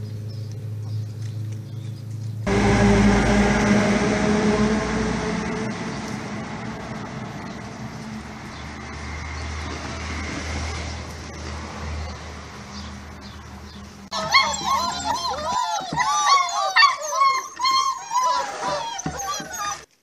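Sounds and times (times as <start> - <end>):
vehicle engine and road noise: 0.0 - 16.5.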